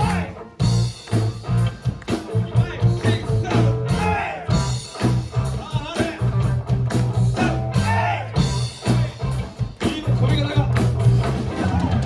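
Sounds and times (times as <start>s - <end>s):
bass guitar: 0.0s - 12.0s
drum beat: 0.0s - 12.0s
electric guitar: 0.0s - 12.0s.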